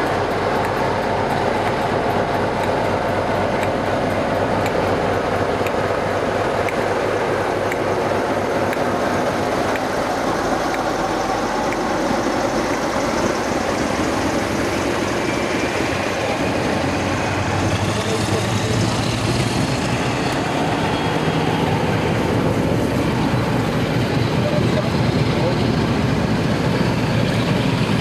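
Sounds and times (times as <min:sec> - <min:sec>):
diesel locomotive engine running: 0:00.0 - 0:28.0.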